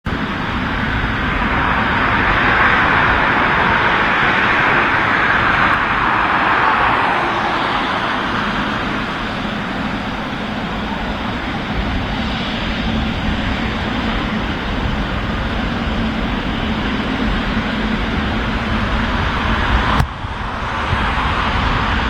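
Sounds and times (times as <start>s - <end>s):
jet roar passing: 0.1s - 22.0s.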